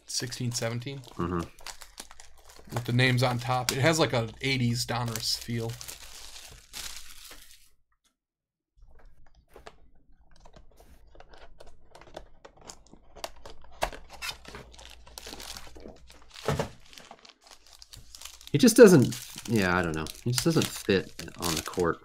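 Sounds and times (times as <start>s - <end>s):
foil packs crackling and crinkling: 0.1s - 7.7s, 10.9s - 22.0s.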